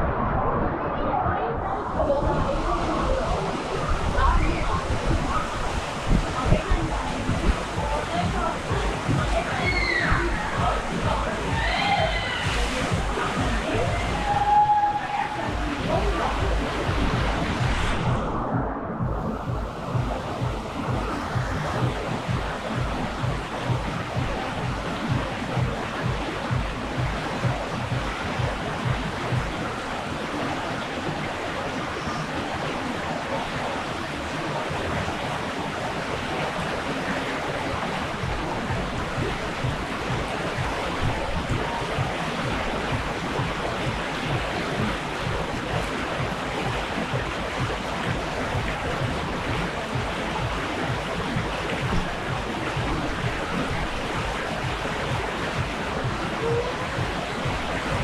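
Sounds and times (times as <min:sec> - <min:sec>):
low rumbling on microphone: 0:00.0 - 0:58.0
water rushing down a slide: 0:00.0 - 0:58.0.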